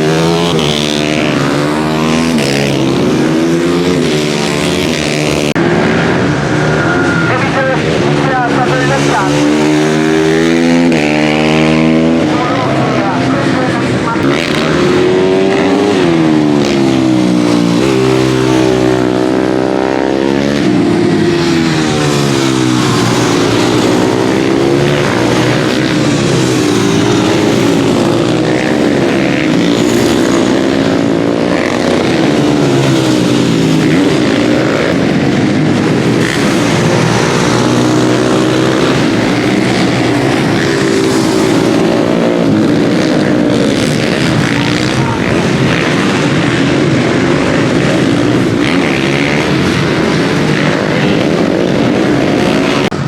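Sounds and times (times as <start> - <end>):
racing motorcycle engines revving: 0.0 - 53.0.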